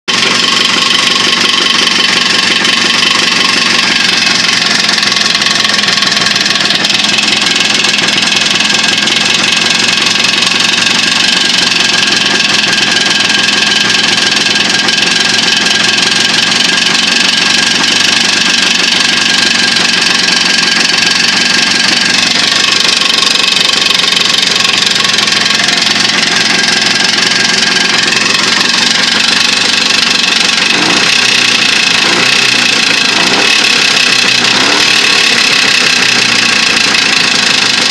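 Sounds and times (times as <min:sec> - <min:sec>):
motorcycle engine knocking: 0:00.0 - 0:37.9.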